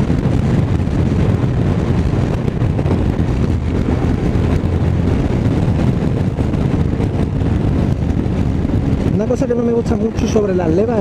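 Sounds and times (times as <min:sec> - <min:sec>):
wind noise: 0:00.0 - 0:11.0.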